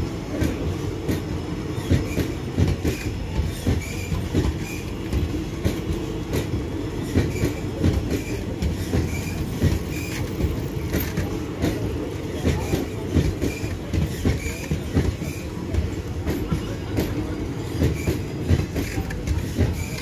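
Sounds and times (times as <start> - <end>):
train passing with low rumble: 0.0 - 20.0.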